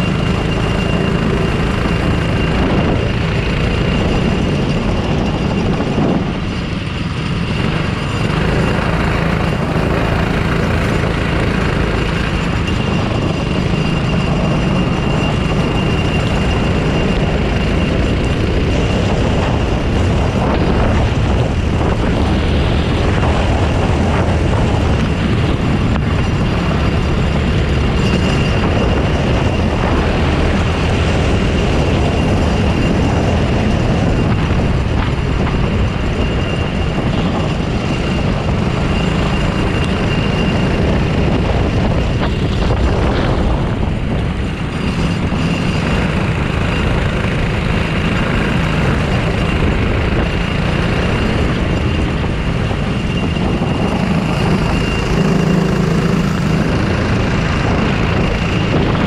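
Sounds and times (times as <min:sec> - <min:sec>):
kart engine running hard: 0:00.0 - 0:59.0
track noise: 0:00.0 - 0:59.0
wind noise: 0:00.0 - 0:59.0.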